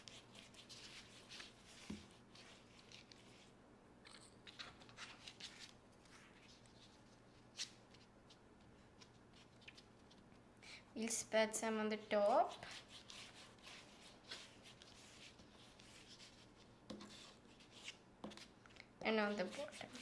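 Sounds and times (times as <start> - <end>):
rustling and scratching of papads: 0.0 - 3.6, 4.5 - 10.4, 12.0 - 20.0.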